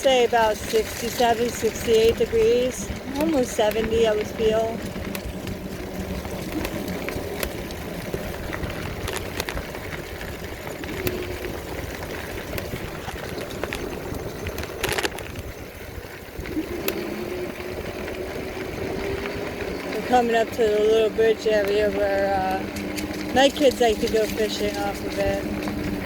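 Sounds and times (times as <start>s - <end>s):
sharp clicks and rattles: 0.0s - 26.0s
vehicle engine running: 0.0s - 26.0s.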